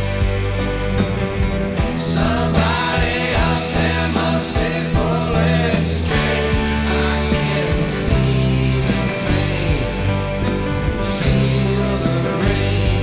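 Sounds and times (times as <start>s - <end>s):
rock band playing: 0.0s - 13.0s
person singing: 1.8s - 13.0s.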